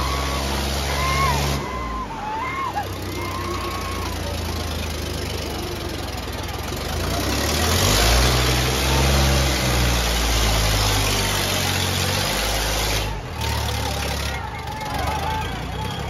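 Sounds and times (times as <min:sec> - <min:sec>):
diesel tractor engine revving: 0:00.0 - 0:16.0.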